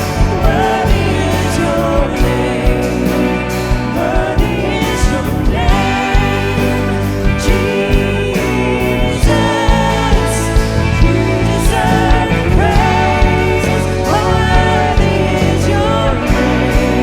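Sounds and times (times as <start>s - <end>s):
worship band with singing: 0.0s - 17.0s.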